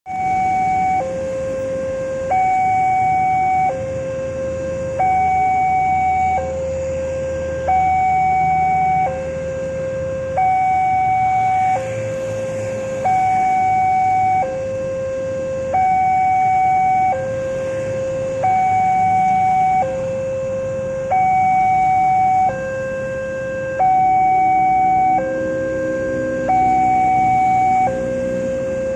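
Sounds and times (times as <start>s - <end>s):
level crossing two-tone alarm: 0.1s - 28.9s.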